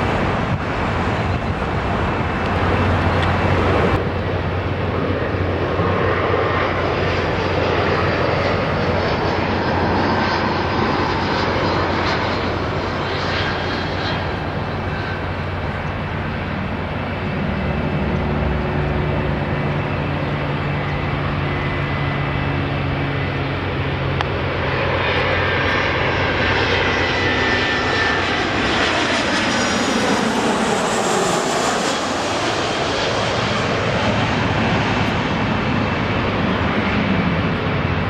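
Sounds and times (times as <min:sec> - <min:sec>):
jet airliner engines overhead: 0:00.0 - 0:38.0
road traffic passing: 0:00.0 - 0:38.0.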